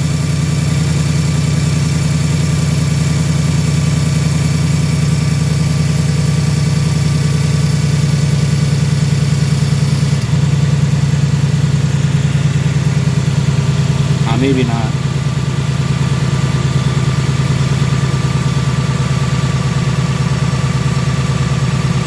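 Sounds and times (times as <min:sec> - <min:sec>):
car engine idling: 0:00.0 - 0:22.0
loud engine ticking: 0:00.0 - 0:22.0.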